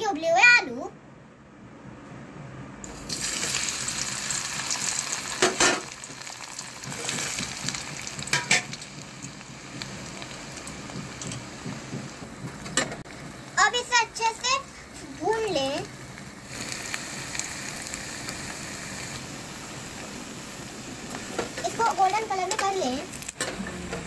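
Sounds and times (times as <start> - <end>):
potatoes sizzling in oil: 2.9 - 12.4, 13.1 - 23.4.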